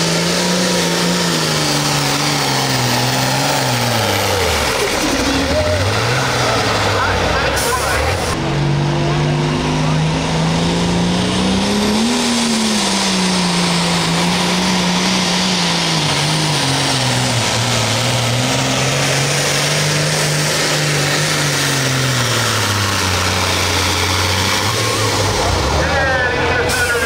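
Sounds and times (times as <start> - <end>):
tractor engine under load: 0.0 - 27.0.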